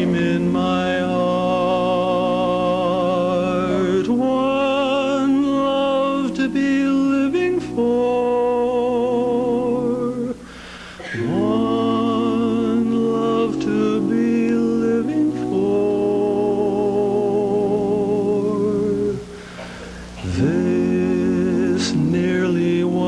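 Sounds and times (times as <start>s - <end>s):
male quartet singing a cappella: 0.0s - 19.5s, 20.2s - 23.0s.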